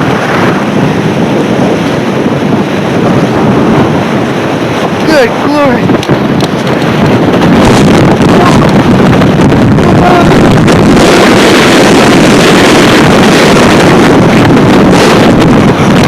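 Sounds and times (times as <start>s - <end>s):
blizzard wind roaring on microphone: 0.0s - 16.0s.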